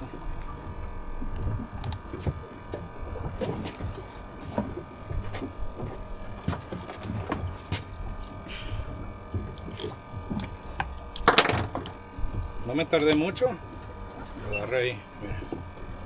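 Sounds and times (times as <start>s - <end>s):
clicks and knocks handling fish: 0.0s - 16.0s
steady low rumble: 0.0s - 16.0s.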